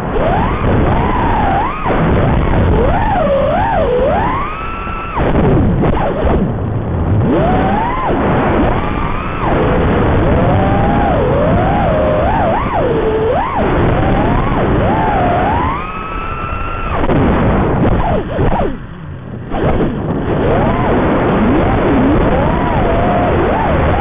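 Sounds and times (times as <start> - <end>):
drone motors whining: 0.0 - 24.0
rushing wind noise: 0.0 - 24.0.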